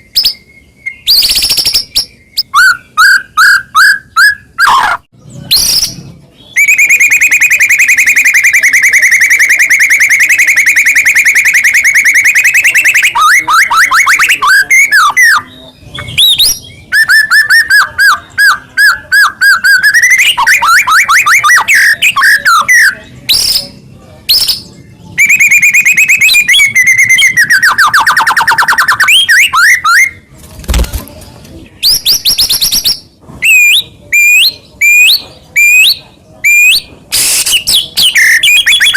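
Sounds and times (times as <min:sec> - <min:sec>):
songbird singing trills and whistles: 0:00.0 - 0:30.3, 0:31.8 - 0:38.9.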